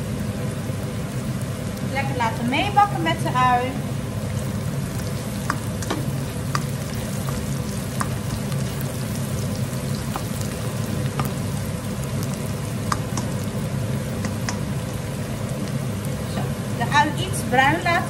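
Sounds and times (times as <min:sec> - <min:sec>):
onion and garlic sizzling in oil: 0:00.0 - 0:18.0
range hood fan hum: 0:00.0 - 0:18.0.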